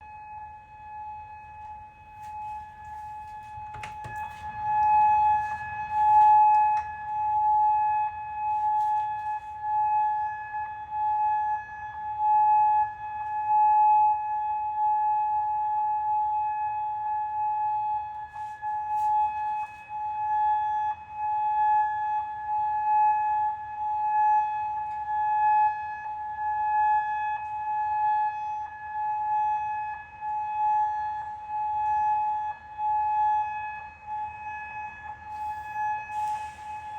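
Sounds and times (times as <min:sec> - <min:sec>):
steady high alarm siren: 0:00.0 - 0:36.9.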